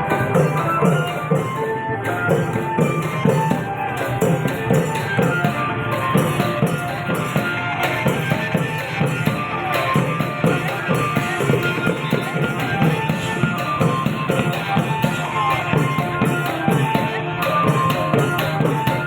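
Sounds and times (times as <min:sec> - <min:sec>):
continuous melody: 0:00.0 - 0:19.0
fast drum strokes: 0:00.0 - 0:19.0.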